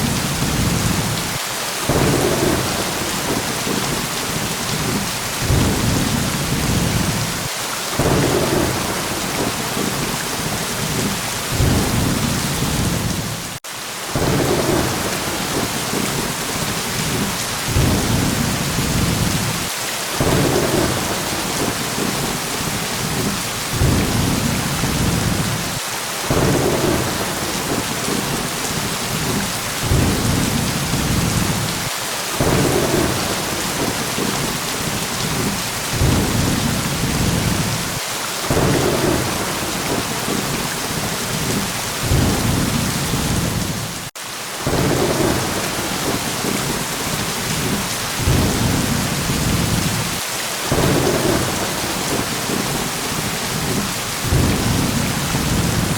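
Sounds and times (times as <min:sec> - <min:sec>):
low thunder rumbling: 0:00.0 - 0:13.6, 0:14.2 - 0:55.9
heavy rain hissing: 0:00.0 - 0:55.9.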